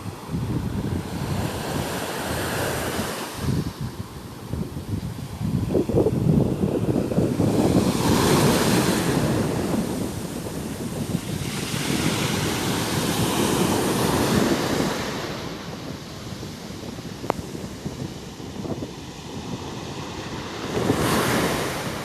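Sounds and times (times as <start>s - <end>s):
sea waves breaking: 0.0s - 22.0s
wind rumbling on microphone: 0.0s - 22.0s.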